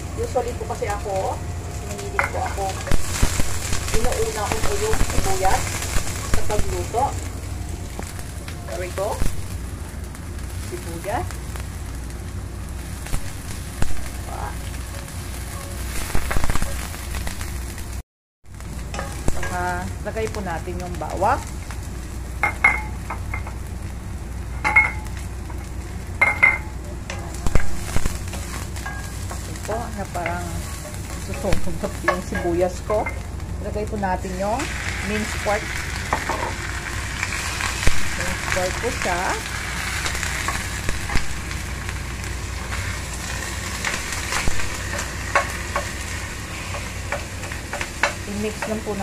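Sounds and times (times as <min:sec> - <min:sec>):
onion sizzling in frying pan: 0:00.0 - 0:49.0.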